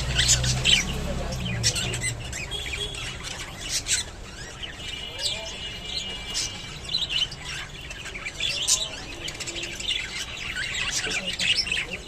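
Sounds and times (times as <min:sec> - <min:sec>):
budgerigars chirping: 0:00.0 - 0:12.0.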